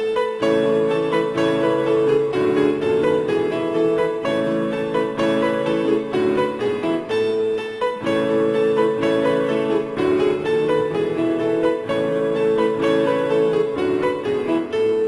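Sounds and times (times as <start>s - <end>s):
piano background music: 0.0s - 15.0s.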